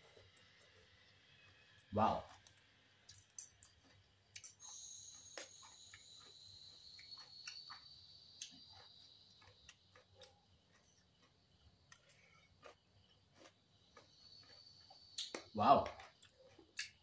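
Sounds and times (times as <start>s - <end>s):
faint high-pitched whine: 0.0s - 17.0s
soft chewing: 0.0s - 17.0s.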